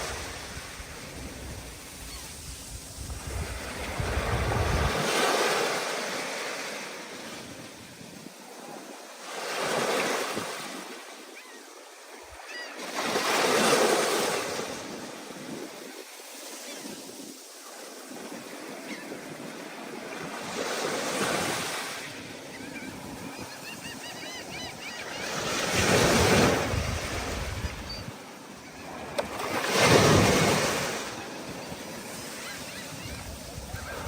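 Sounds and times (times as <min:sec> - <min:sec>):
water wash and wind: 0:00.0 - 0:34.0
waves surging and breaking: 0:00.0 - 0:34.0.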